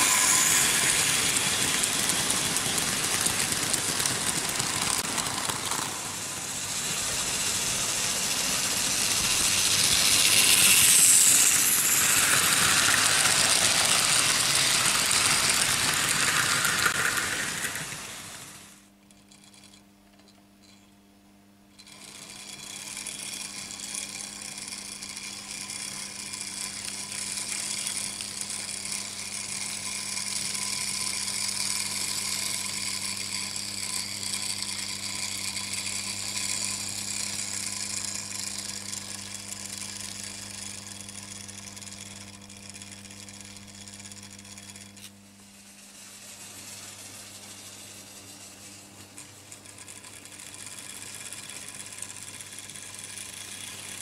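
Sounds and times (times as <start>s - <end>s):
model train rattling on track: 0.0s - 18.8s, 21.8s - 54.0s.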